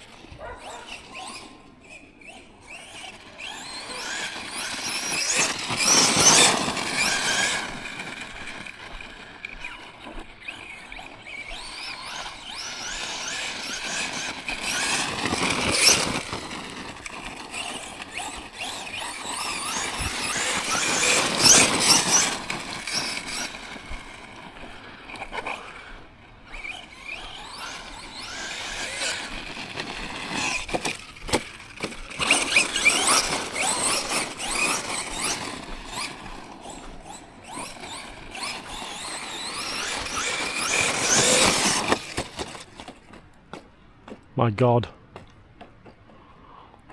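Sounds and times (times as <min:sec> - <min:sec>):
electric toy truck motor whining: 0:00.0 - 0:43.4.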